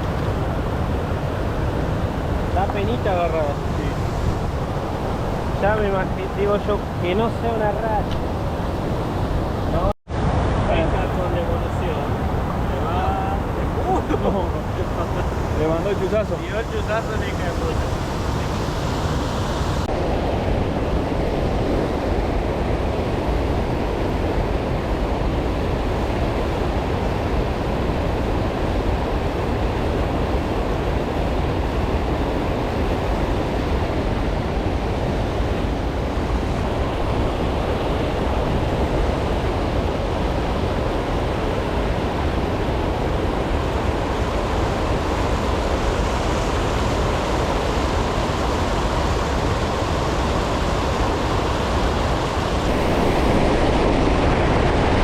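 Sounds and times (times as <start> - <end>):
rushing water: 0.0 - 55.0
wind buffeting microphone: 0.0 - 55.0.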